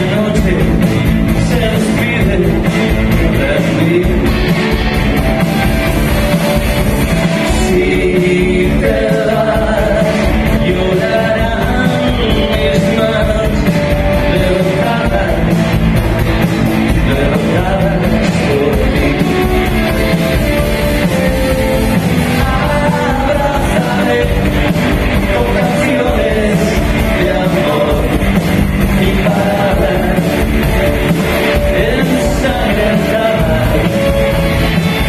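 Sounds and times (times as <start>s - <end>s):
man singing: 0.0s - 4.8s, 7.3s - 20.6s, 21.7s - 34.6s
live rock band playing: 0.0s - 35.0s.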